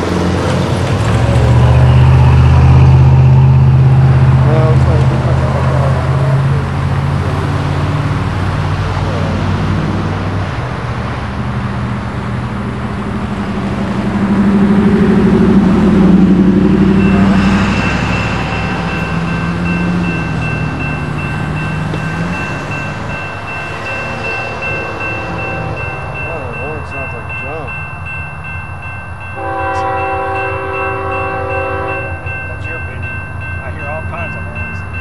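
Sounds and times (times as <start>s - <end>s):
crossing warning bell ringing: 0.0s - 9.7s, 12.5s - 35.0s
traffic over railroad crossing: 0.0s - 35.0s.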